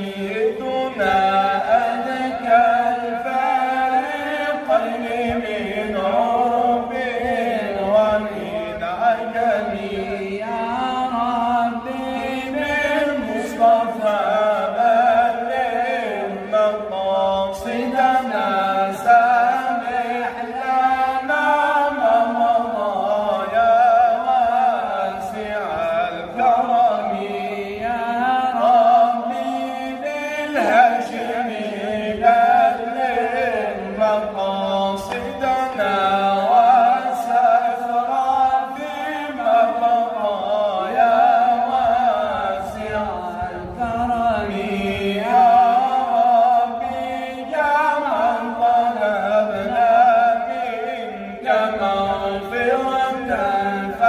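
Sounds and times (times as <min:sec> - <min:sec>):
man chanting: 0:00.0 - 0:54.0.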